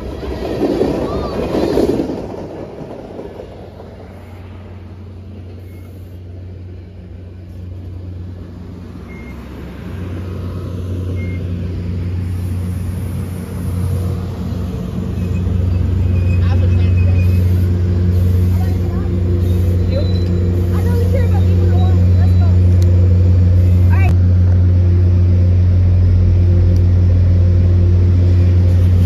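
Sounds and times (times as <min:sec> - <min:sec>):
train rolling past: 0:00.0 - 0:29.0
low engine hum: 0:03.8 - 0:29.0.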